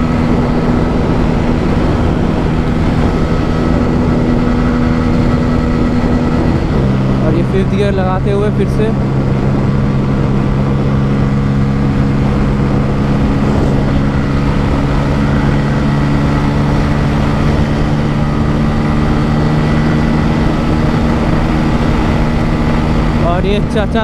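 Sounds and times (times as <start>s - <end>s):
motorcycle engine at high revs: 0.0s - 24.0s
wind rumble on microphone: 0.0s - 24.0s.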